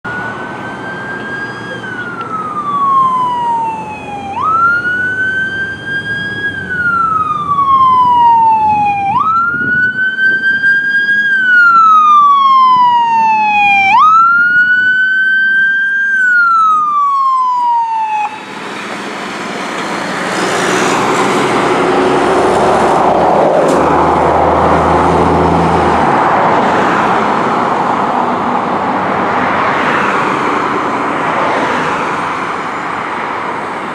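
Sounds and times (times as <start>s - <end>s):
fire engine siren wailing: 0.0s - 33.9s
truck engine and tyres passing: 0.0s - 33.9s.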